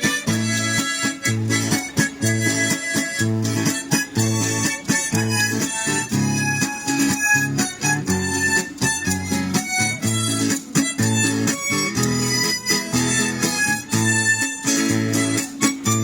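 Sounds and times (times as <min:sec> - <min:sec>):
acoustic guitar strumming chords: 0:00.0 - 0:16.0
harmonica melody: 0:00.0 - 0:16.0.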